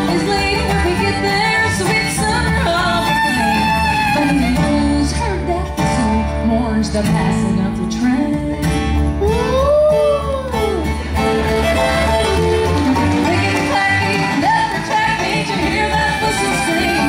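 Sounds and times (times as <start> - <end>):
bluegrass band with banjo and guitar: 0.0 - 17.0.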